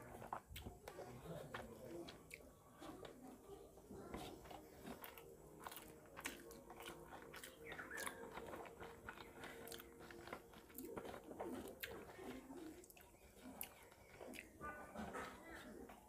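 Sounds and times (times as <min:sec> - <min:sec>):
fingers squishing rice: 0:00.0 - 0:16.0
man chewing: 0:00.0 - 0:16.0.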